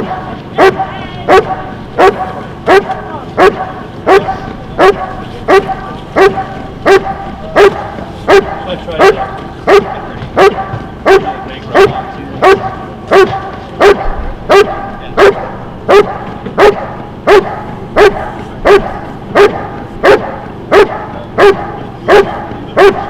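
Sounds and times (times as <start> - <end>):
dog barking deeply: 0.0 - 23.0.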